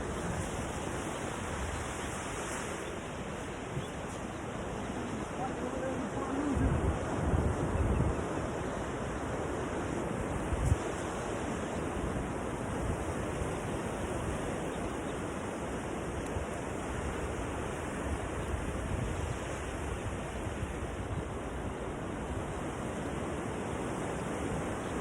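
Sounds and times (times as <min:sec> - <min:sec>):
ocean surf breaking on beach: 0:00.0 - 0:25.0.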